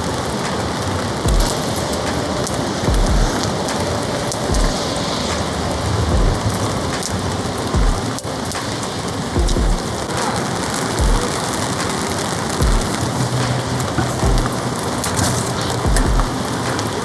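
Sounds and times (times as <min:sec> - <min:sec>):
heavy rain on tarp: 0:00.0 - 0:17.0.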